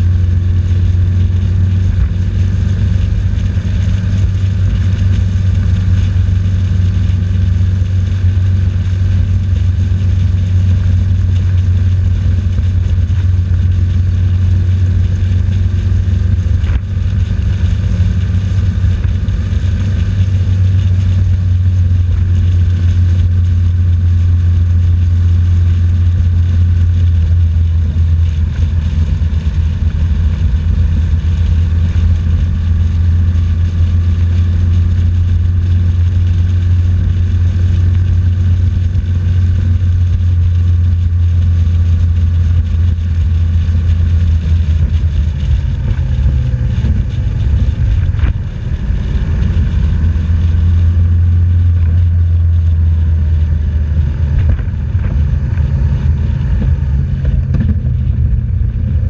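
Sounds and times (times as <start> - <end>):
motorcycle engine droning in tunnel: 0.0 - 59.0.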